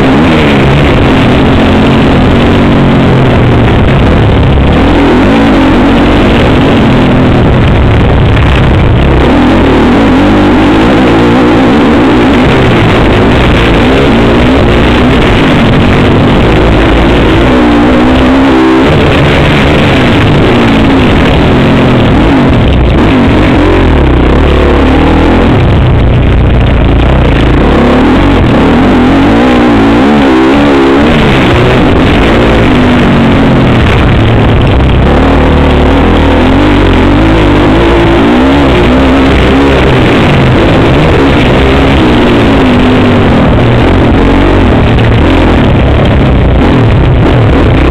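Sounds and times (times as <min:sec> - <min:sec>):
motocross bike engine revving: 0:00.0 - 0:47.9
wind rush: 0:00.0 - 0:47.9.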